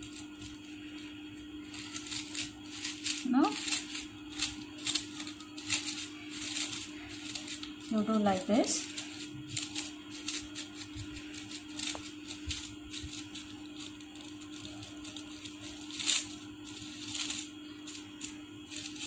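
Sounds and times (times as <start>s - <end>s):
paper crackling and rustling: 0.0s - 19.0s
steady low hum: 0.0s - 19.0s.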